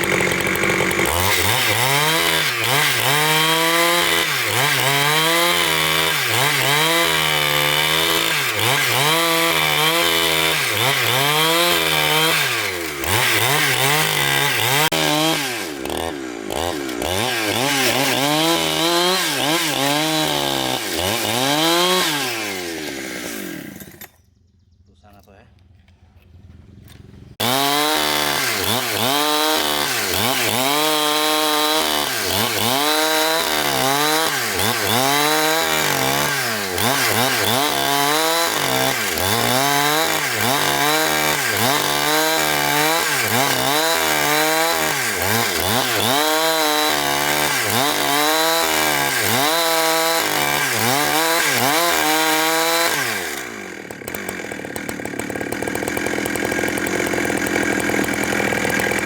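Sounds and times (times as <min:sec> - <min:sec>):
chainsaw cutting timber: 0:00.0 - 0:24.2, 0:26.9 - 0:59.0.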